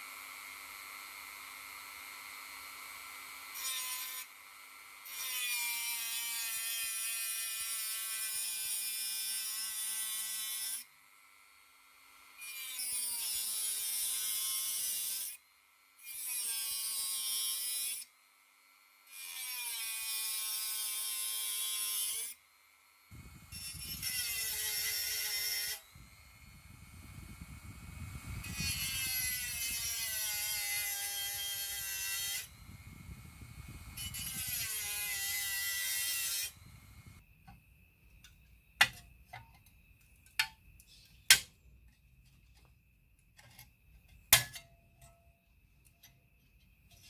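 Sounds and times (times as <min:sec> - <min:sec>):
rotary tool grinding steel: 0:00.0 - 0:37.3, 0:43.3 - 0:45.2.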